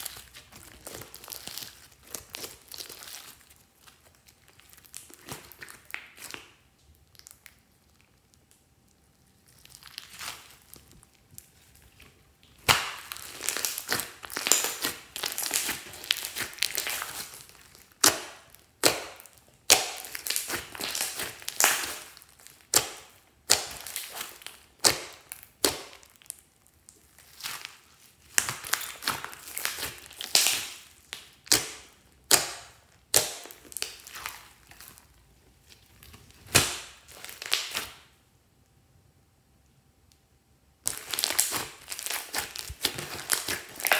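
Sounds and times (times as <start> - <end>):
hands squishing slime: 0.0 - 38.2, 40.8 - 43.9.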